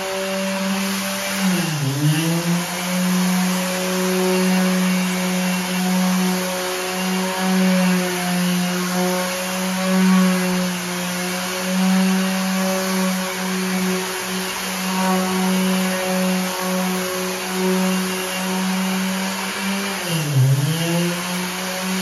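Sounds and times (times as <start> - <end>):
electric sander on wood: 0.0 - 22.0.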